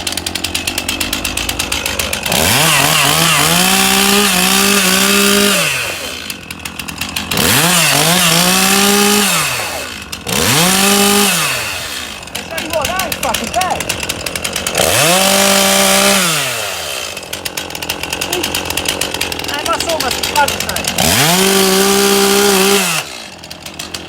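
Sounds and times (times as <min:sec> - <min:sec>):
chainsaw idling and revving: 0:00.0 - 0:24.0.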